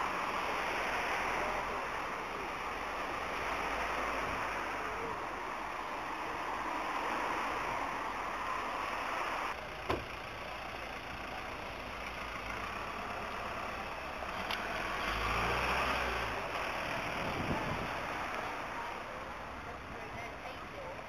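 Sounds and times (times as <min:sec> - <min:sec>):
traffic on wet roads: 0:00.0 - 0:21.0
vehicle engine rumbling: 0:00.0 - 0:21.0.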